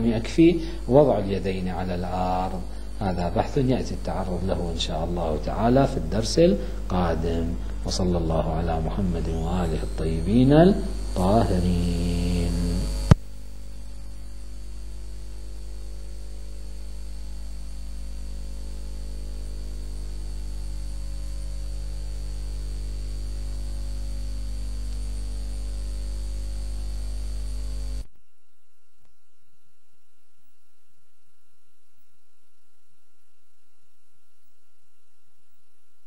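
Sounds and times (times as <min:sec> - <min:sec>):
electrical mains hum: 0:00.0 - 0:36.0
thin high whine: 0:00.0 - 0:36.0.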